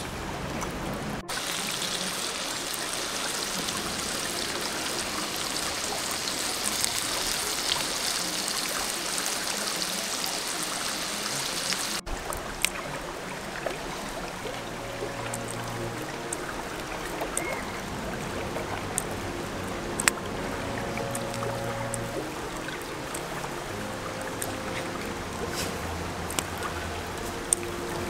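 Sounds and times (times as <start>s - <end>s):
stream rushing: 0.0s - 28.0s.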